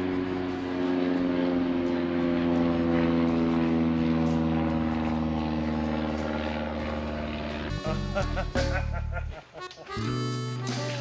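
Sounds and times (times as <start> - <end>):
propeller airplane engine drone: 0.0 - 11.0.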